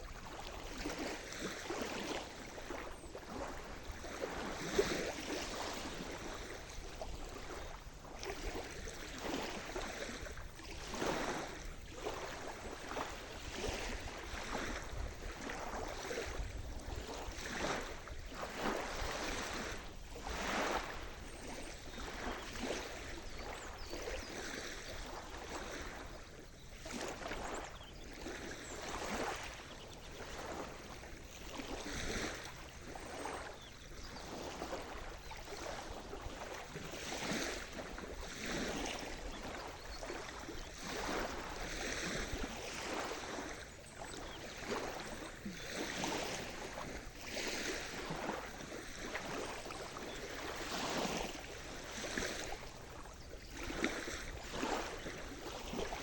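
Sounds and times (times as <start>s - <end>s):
sea surf washing on shore: 0.0s - 56.0s.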